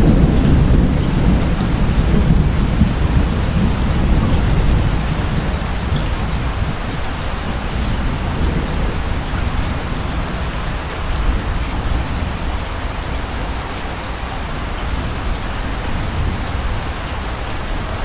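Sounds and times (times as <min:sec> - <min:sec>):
distant thunder rumble: 0:00.0 - 0:18.0
steady rain falling: 0:00.0 - 0:18.0.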